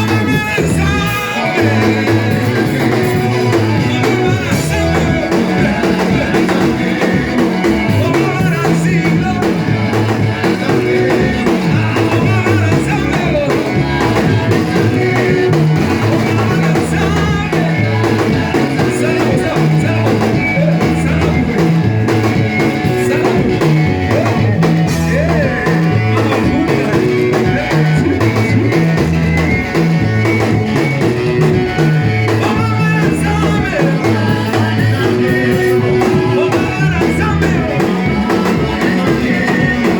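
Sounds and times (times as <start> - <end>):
voices singing: 0.0 - 39.9
worship band music: 0.0 - 39.9.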